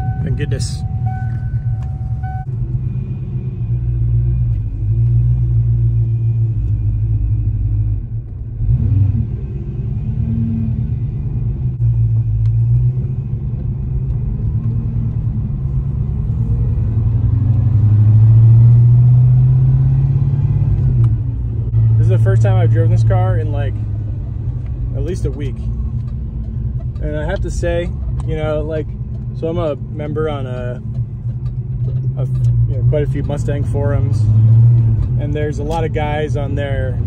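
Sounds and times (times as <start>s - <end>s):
car engine accelerating: 0.0s - 37.0s
road noise: 0.0s - 37.0s.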